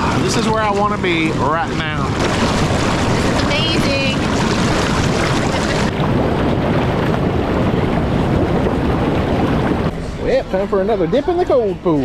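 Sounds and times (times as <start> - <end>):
hot tub jets bubbling water: 0.0 - 12.0.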